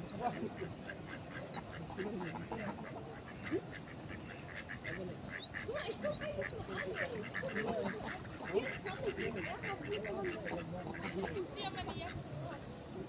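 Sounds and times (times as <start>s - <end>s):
ducks quacking: 0.0s - 13.0s
small birds chirping: 0.0s - 13.0s.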